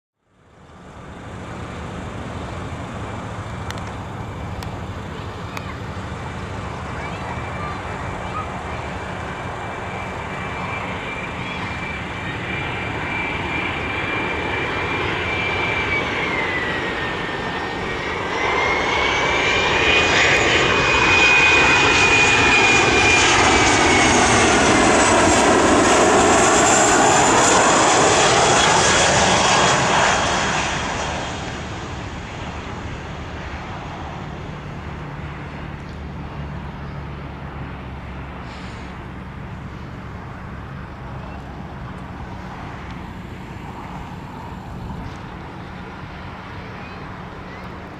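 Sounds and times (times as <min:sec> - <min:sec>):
high engine whine: 0:00.2 - 0:47.9
jet airliner passing: 0:00.5 - 0:47.9.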